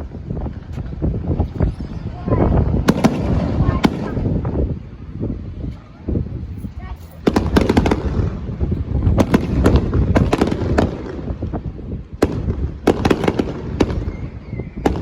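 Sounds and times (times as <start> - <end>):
fireworks bangs and crackles: 0.0 - 15.0
steady low rumble: 0.0 - 15.0.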